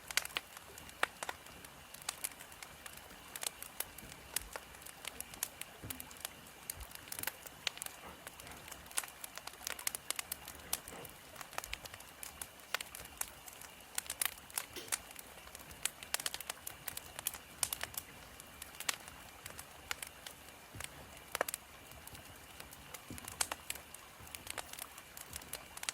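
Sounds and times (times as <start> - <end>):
faint steady hiss: 0.0 - 25.9
firewood crackling and popping: 0.0 - 25.9.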